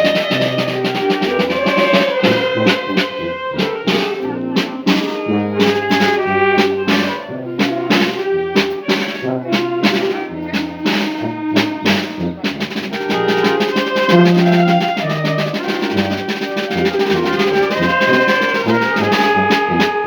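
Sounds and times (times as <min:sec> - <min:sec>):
drums and cymbals: 0:00.0 - 0:20.0
trumpets and trombones: 0:00.0 - 0:20.0.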